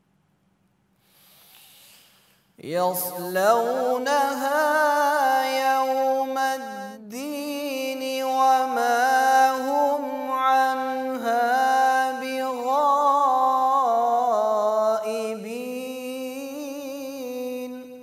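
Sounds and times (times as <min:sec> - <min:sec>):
man reciting melodically: 0:02.6 - 0:18.0.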